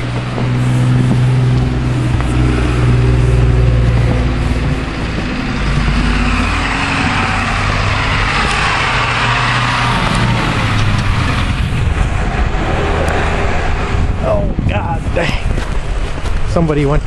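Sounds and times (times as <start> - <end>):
vehicle driving past: 0.0 - 14.3
vehicle engine running: 0.0 - 14.5.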